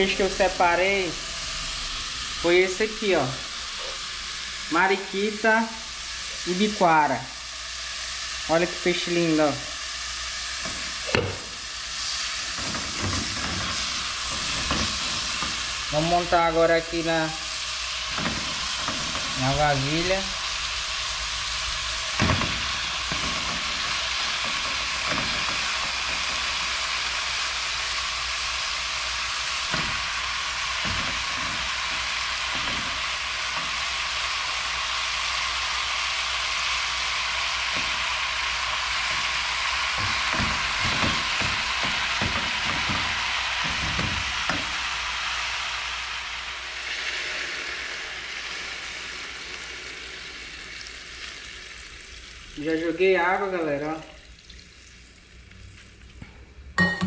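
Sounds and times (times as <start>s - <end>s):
water pouring into pan: 0.0s - 56.6s
fish and vegetables sizzling in oil: 0.0s - 56.8s.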